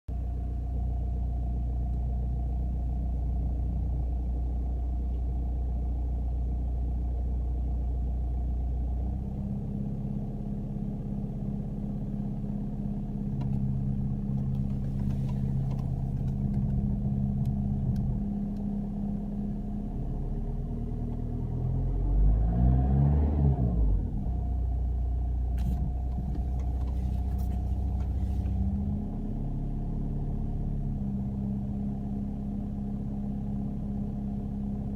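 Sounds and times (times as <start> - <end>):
car engine idling: 0.1 - 22.2, 23.8 - 34.9.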